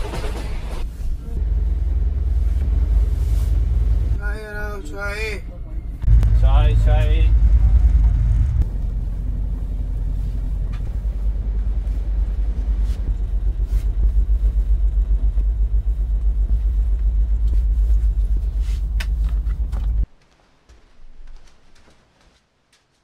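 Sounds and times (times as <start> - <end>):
train rumble inside coach: 0.0 - 20.1.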